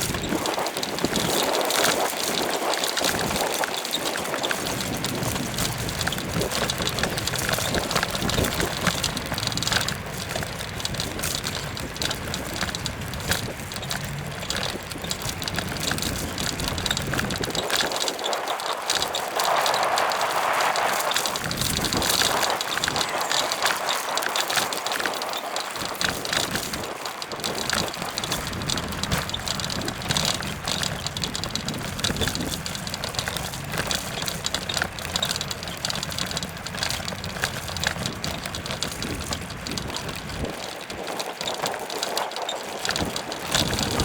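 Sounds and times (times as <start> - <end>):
bicycle tyres rolling on path: 0.0 - 44.0
bike rattles and clicks: 0.0 - 44.0
wind buffeting microphone: 0.0 - 44.0.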